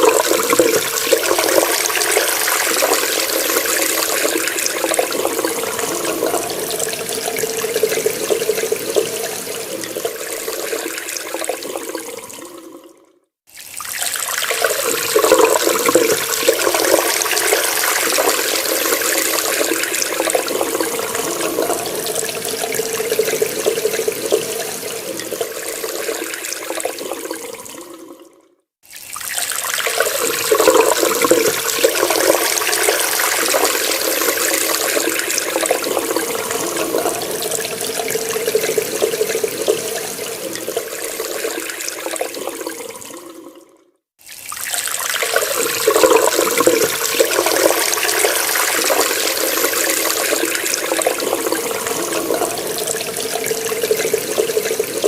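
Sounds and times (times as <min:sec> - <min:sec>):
tap water running into sink: 0:00.0 - 0:12.9, 0:13.5 - 0:28.2, 0:28.9 - 0:55.0.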